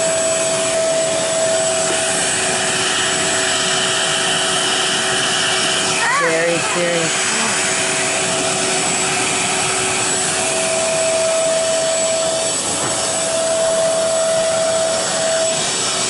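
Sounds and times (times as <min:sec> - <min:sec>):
carpet cleaner motor whining: 0:00.0 - 0:16.0
nozzle sucking water: 0:00.0 - 0:16.0.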